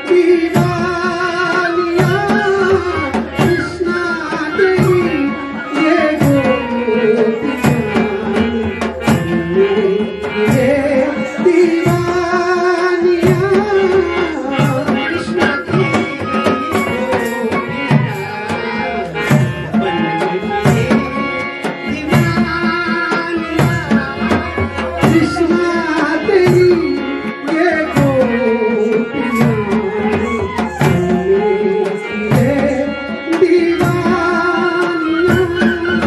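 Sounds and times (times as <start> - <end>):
hand drum rhythm: 0.0 - 36.0.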